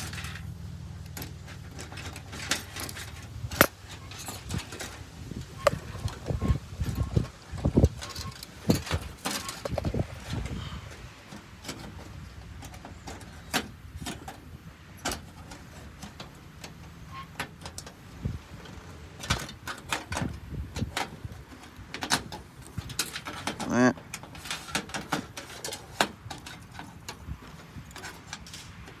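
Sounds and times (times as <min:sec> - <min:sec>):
plastic and metal parts rattling: 0:00.0 - 0:29.0.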